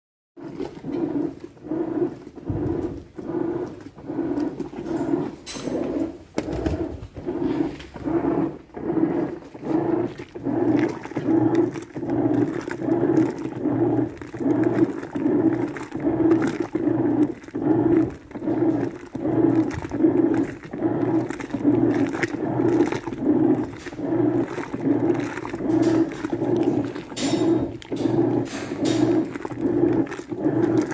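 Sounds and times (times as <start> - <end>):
washing machine agitator churning: 0.4 - 30.9.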